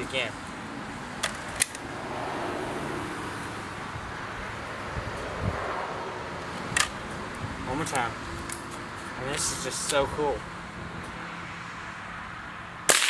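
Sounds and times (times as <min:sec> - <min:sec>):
distant road noise: 0:00.0 - 0:13.0
wind: 0:00.0 - 0:13.0.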